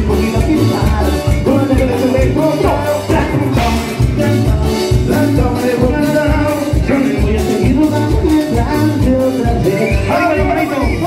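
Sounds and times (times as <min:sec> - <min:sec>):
live band dance music: 0:00.0 - 0:11.0.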